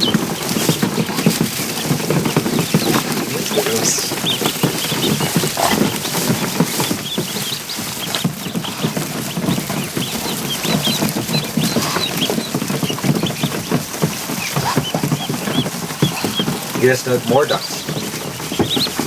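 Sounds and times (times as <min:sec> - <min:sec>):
ducklings peeping: 0:00.0 - 0:19.0
small feet pattering and splashing: 0:00.0 - 0:19.0.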